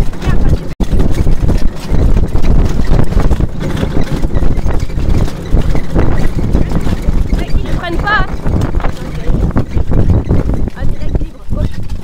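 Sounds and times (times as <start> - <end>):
carriage wheels rumbling: 0.0 - 12.0
harness rattling: 0.0 - 12.0
hoofbeats: 0.0 - 12.0.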